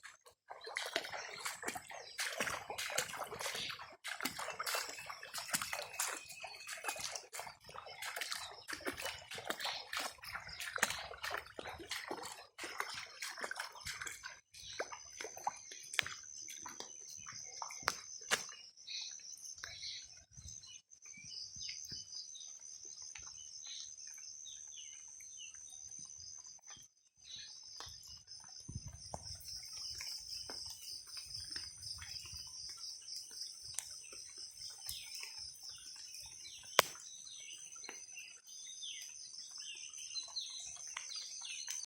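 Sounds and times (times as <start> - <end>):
birds chirping: 0.5 - 41.9.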